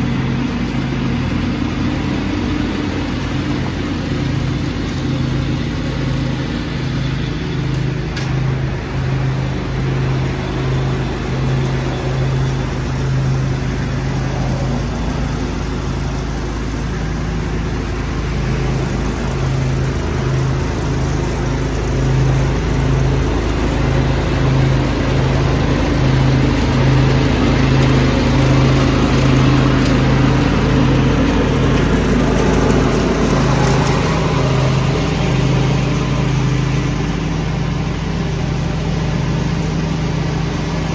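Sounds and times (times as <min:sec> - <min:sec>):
leaf vacuum sucking leaves: 0:00.0 - 0:40.9
small engine running: 0:00.0 - 0:40.9.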